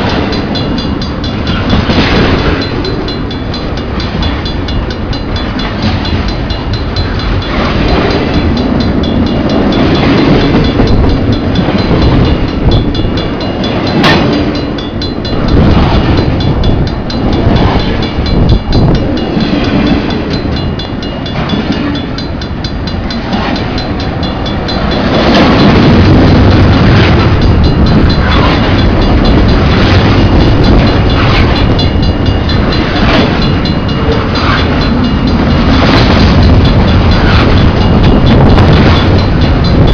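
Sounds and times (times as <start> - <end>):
train cars rumbling past: 0.0 - 39.9
train wheels clacking: 0.0 - 39.9.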